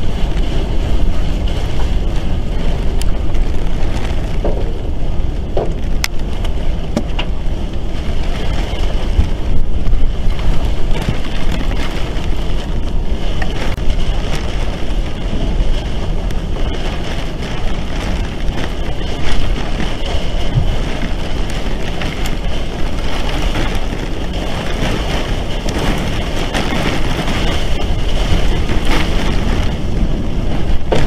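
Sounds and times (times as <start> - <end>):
strong wind rumbling: 0.0 - 31.0
wind buffeting microphone: 0.0 - 31.0.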